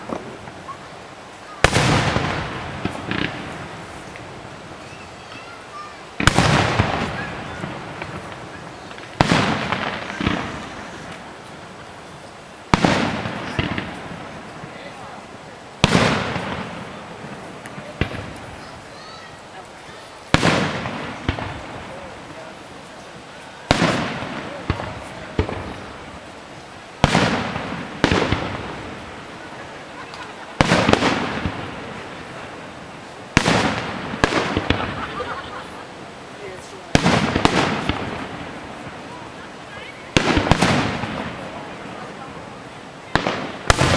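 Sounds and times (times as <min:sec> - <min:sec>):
fireworks booming: 0:00.0 - 0:43.9
fireworks pops: 0:00.0 - 0:43.9
rumble after fireworks: 0:00.0 - 0:43.9.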